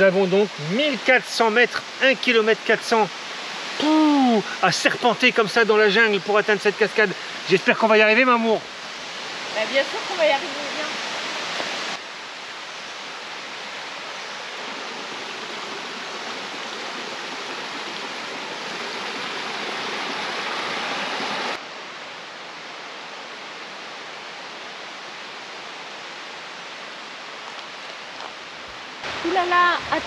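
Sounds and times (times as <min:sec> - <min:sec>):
forest stream rushing: 0:00.0 - 0:30.0.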